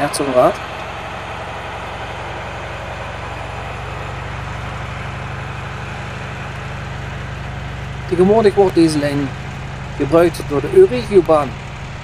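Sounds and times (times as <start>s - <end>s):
locomotive diesel engine drone: 0.0s - 12.0s.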